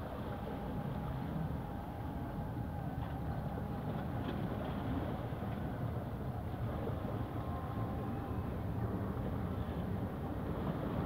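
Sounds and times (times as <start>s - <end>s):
low seashore rumble: 0.0s - 11.0s.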